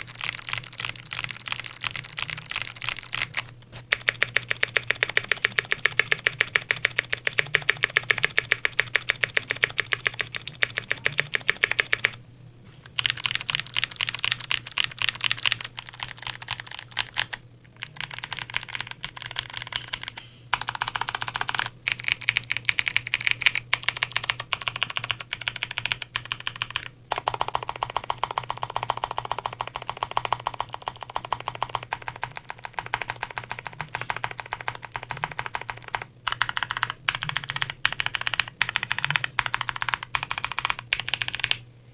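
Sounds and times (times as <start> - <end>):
mechanical keyboard typing: 0.0 - 12.2, 12.9 - 41.6.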